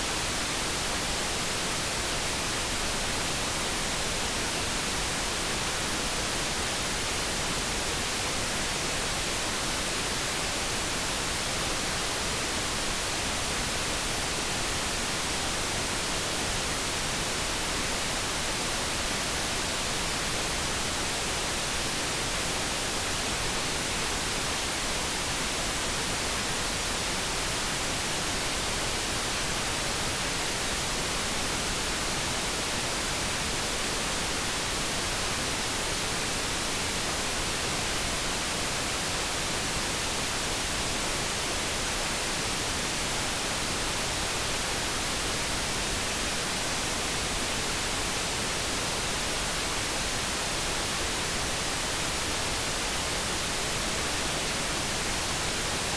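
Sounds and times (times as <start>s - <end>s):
steady hiss noise: 0.0s - 55.9s.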